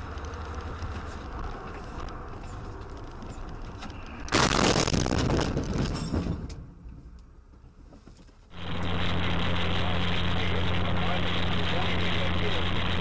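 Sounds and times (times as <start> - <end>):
road and engine noise: 0.0 - 13.0.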